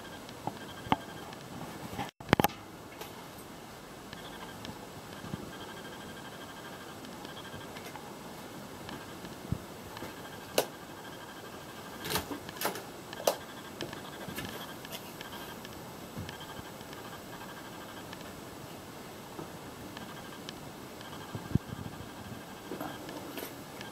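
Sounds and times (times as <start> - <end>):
ventilation and machinery hum: 0.0 - 23.9.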